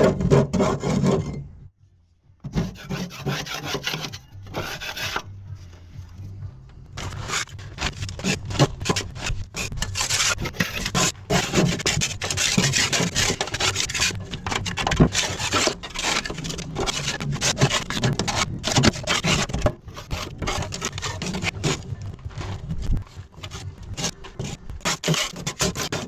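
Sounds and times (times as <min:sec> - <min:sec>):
rubbing and scraping: 0:00.0 - 0:01.6, 0:02.4 - 0:26.0.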